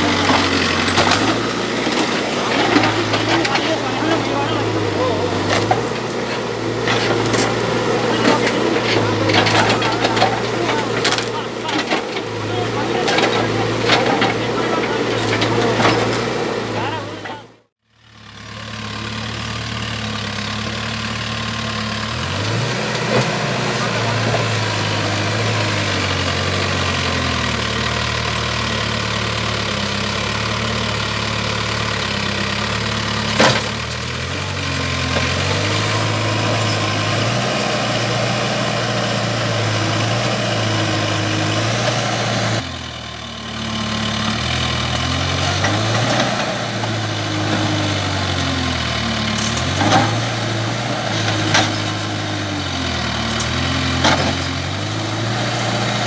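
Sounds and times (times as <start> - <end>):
diesel engine working under load: 0.0 - 56.0.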